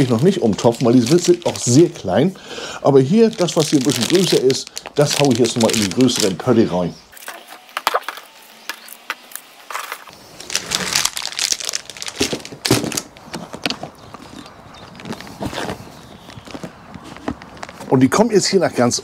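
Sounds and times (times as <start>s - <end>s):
plastic pots rustling and clicking: 0.0s - 2.2s, 2.9s - 6.6s, 7.2s - 19.0s.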